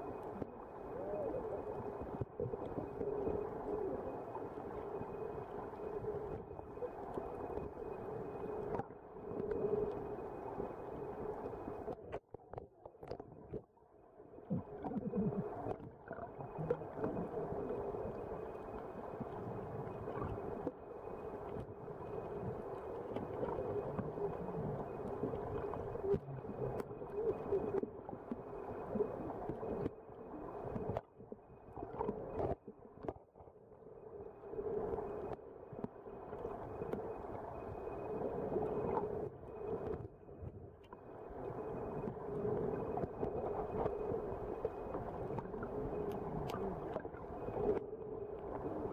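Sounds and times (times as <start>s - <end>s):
underwater low hum and wash: 0.0s - 48.9s.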